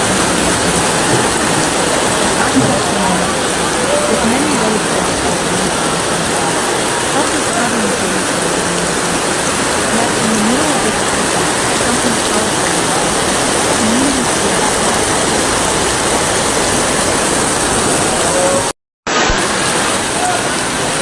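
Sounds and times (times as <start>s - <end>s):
faint voices calling: 0.0s - 17.1s
rushing water: 0.0s - 21.0s.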